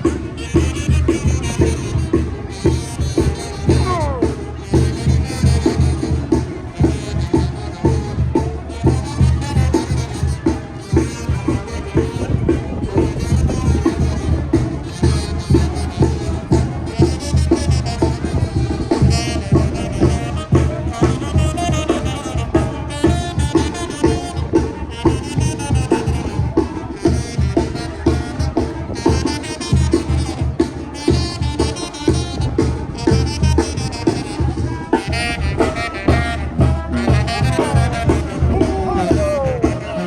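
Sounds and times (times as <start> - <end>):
drum beating steady rhythm: 0.0 - 40.0
wind instruments playing melody: 0.0 - 40.0.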